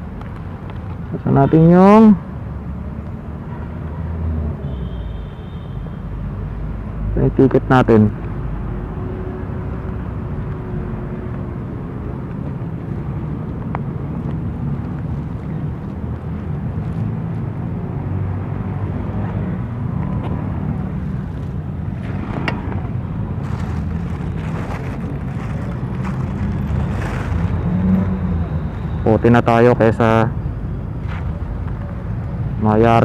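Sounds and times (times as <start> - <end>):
scooter engine and road rumble: 5.8 - 33.0.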